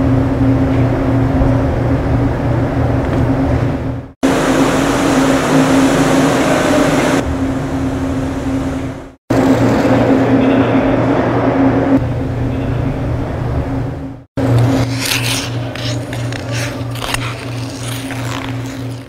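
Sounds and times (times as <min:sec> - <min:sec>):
low mechanical hum with hiss: 0:00.0 - 0:19.0.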